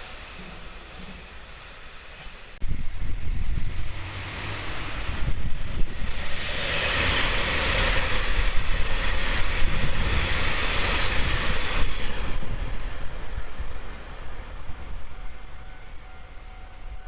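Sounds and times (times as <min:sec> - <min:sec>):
train passing close by: 0:00.0 - 0:17.0
wind buffeting microphone: 0:02.6 - 0:17.0.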